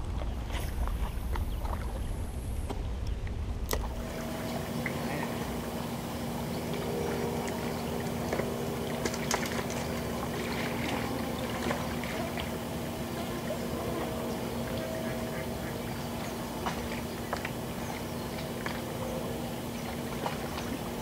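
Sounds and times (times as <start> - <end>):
constant low hum: 0.0 - 21.0
water washing on lakeshore: 0.0 - 21.0.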